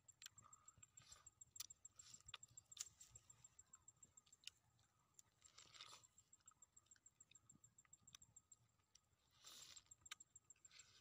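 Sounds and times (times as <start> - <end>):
moist chewing crunches: 0.0 - 11.0.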